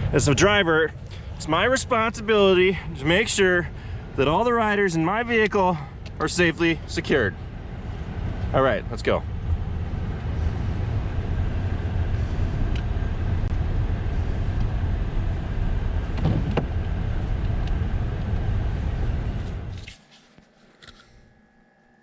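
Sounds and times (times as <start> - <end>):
vehicle engine and road rumble: 0.0 - 21.4.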